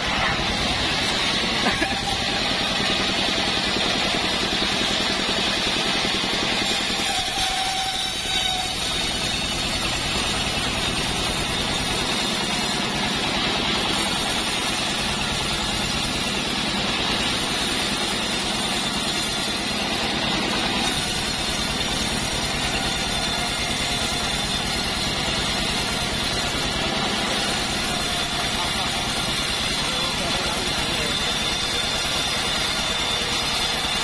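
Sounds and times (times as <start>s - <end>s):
bandsaw mill engine drone: 0.0s - 34.0s
saw blade hissing through wood: 0.0s - 34.0s.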